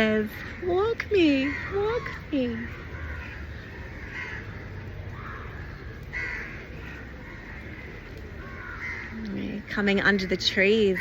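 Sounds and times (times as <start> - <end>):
crows cawing: 0.0 - 11.0
low steady background noise: 0.0 - 11.0.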